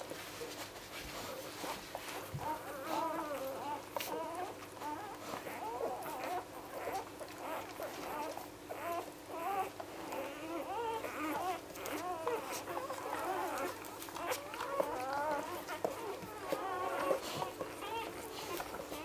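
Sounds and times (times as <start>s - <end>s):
puppies squeaking and whimpering: 1.1s - 19.0s.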